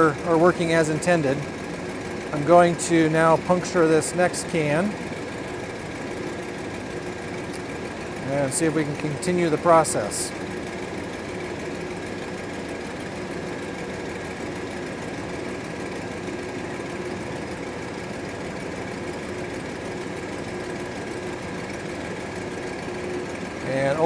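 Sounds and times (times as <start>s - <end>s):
air conditioning compressor running: 0.0s - 24.0s
engine idling: 0.0s - 24.0s.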